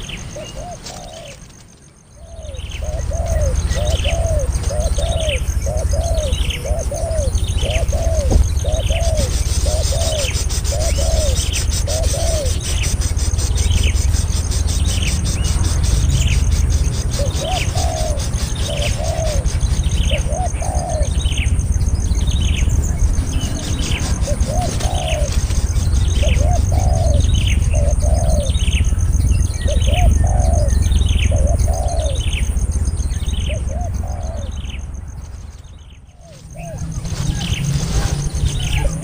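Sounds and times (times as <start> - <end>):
birds chirping: 0.0 - 39.0
high insect trill: 0.0 - 39.0
lower arched bird notes: 0.0 - 39.0.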